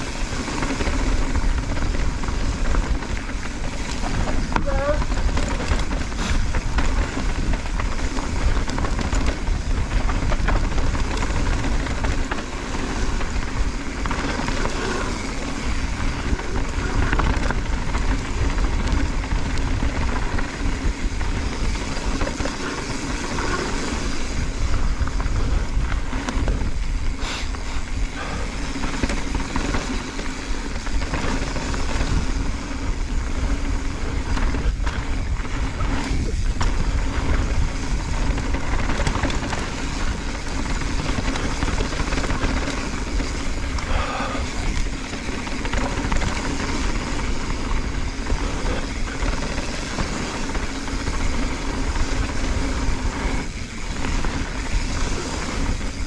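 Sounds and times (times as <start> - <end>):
bike knocking and rattling: 0.0 - 56.0
tyres on dirt: 0.0 - 56.0
wind on microphone: 0.0 - 56.0.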